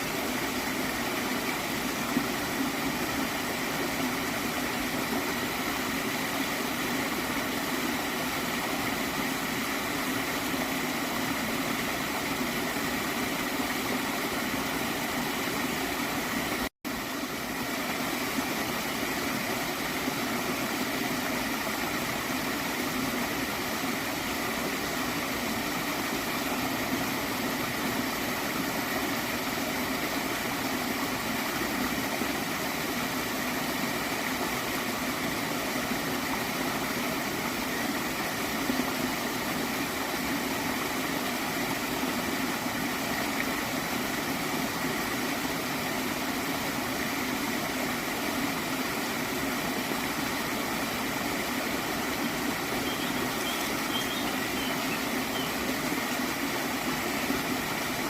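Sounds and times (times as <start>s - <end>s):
stream flowing and gurgling: 0.0s - 58.0s.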